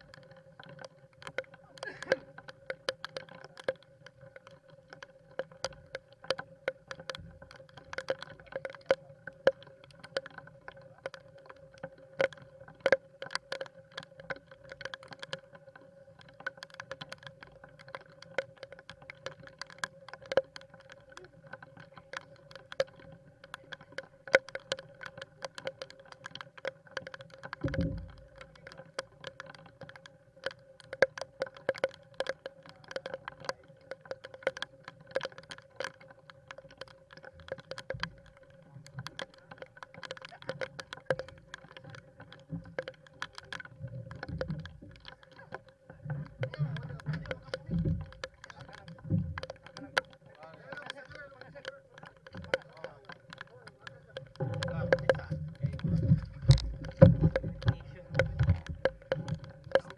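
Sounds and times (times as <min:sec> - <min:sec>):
raindrops tapping: 0:00.0 - 0:59.9.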